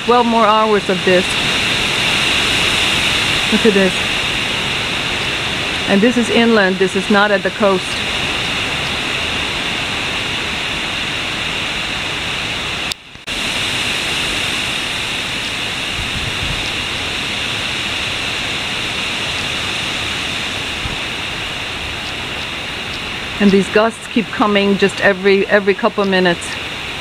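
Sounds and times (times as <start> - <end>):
driving rain: 0.0 - 27.0
wind gusts: 0.0 - 27.0.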